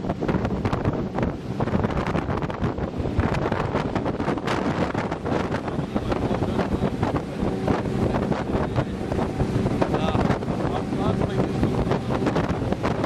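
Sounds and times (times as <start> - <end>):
boat engine drone: 0.0 - 13.0
boat wake rushing: 0.0 - 13.0
wind buffeting microphone: 0.0 - 13.0.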